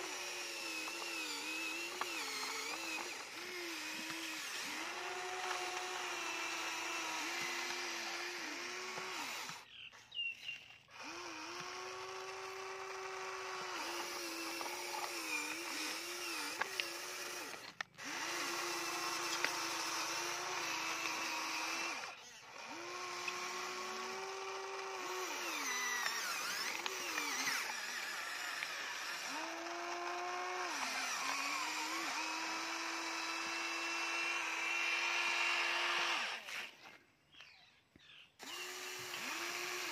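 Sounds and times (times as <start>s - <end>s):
toy excavator motors whining: 0.0s - 39.9s.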